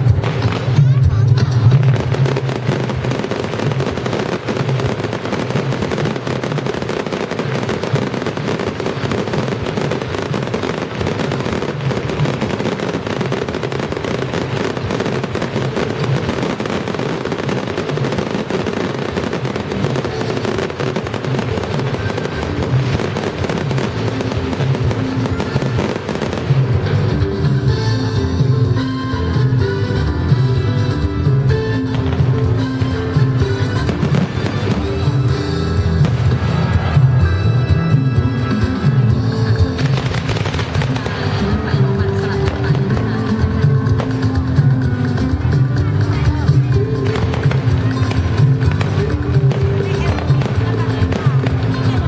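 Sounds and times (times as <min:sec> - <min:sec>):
fireworks crackling and popping: 0:00.0 - 0:28.5, 0:29.9 - 0:52.0
music playing: 0:00.0 - 0:52.0.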